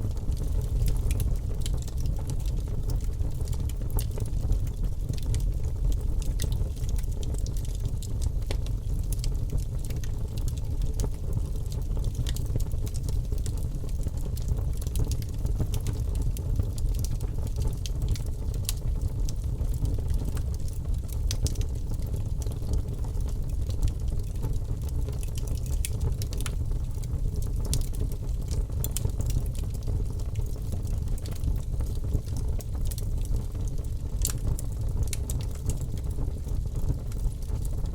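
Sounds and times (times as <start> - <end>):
fire rumbling: 0.0 - 37.9
logs crackling and popping: 0.1 - 37.9.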